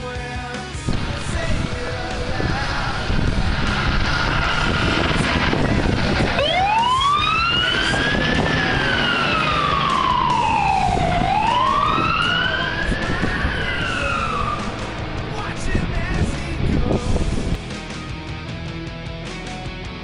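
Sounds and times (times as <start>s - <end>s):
fire truck siren wailing: 0.9s - 17.5s
low rumble: 0.9s - 17.7s.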